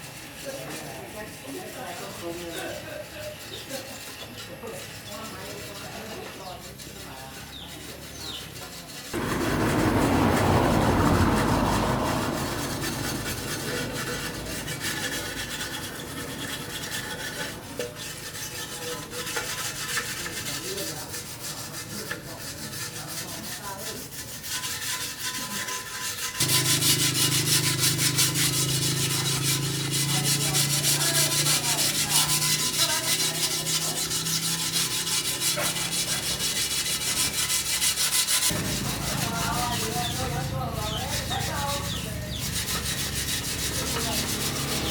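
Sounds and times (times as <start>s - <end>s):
abrasive rubbing and sanding: 0.0s - 44.9s.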